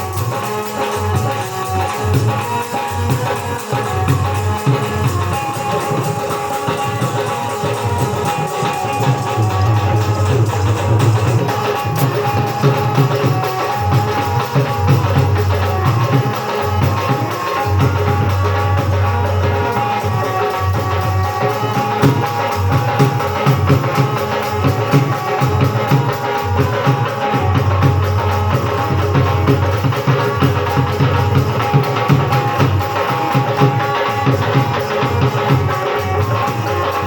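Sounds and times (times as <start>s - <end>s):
folk music with hand drums: 0.0s - 37.0s.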